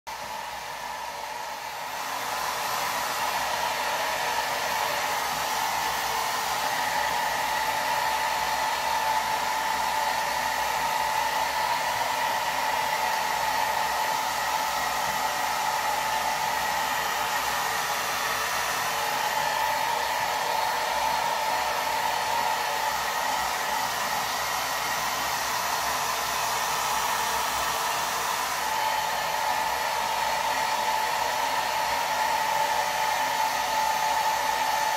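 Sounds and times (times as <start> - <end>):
hair dryer blowing: 0.0 - 34.9.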